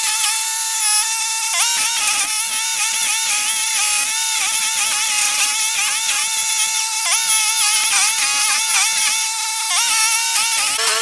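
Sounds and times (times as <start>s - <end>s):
stump grinder high-pitched whine: 0.0s - 11.0s.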